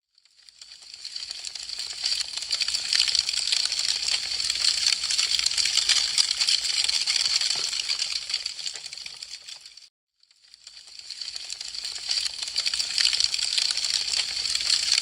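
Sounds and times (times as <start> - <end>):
wood fire crackling: 0.3 - 9.9, 10.5 - 15.0.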